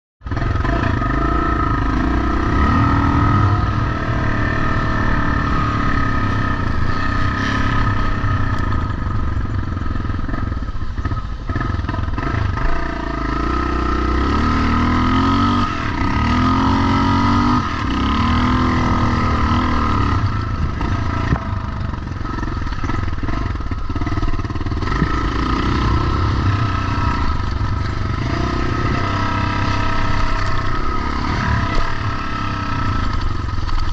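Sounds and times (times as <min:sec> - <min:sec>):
motocross motorcycles revving: 0:00.2 - 0:33.9.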